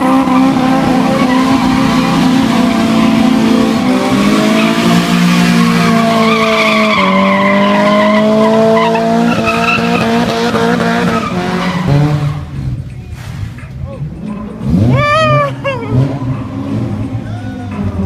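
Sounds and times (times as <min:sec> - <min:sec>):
car engine running hard: 0:00.0 - 0:18.0
tyres squealing on pavement: 0:00.2 - 0:18.0.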